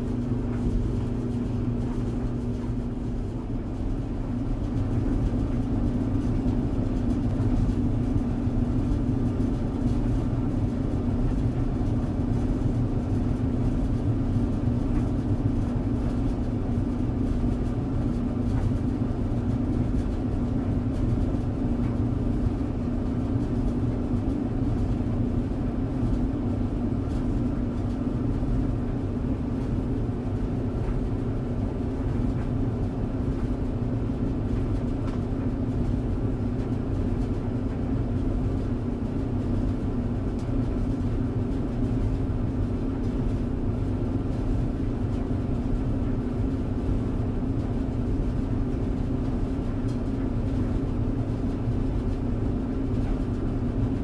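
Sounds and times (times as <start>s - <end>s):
clothes dryer humming: 0.0s - 54.0s.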